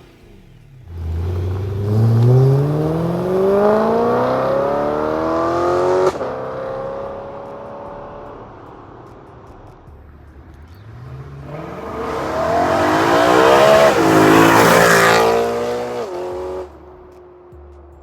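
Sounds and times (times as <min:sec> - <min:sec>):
car engine accelerating hard: 0:00.0 - 0:17.1.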